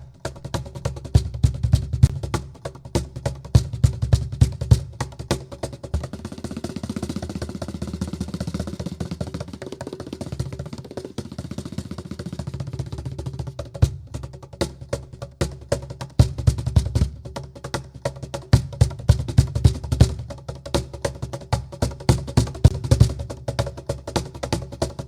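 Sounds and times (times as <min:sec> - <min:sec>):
bongo sounds: 0:00.0 - 0:25.0
cajon strikes and bass beats: 0:00.0 - 0:25.0
shaker: 0:00.0 - 0:25.0.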